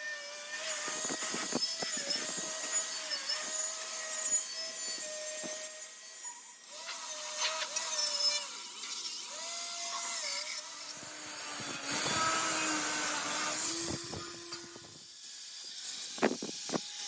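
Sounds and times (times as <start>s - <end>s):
power tool whine: 0.0s - 17.0s.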